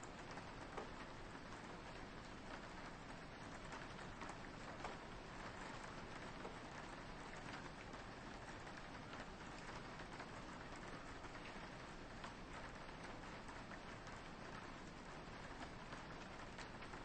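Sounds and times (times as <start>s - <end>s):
rain pattering on a window: 0.0s - 17.0s.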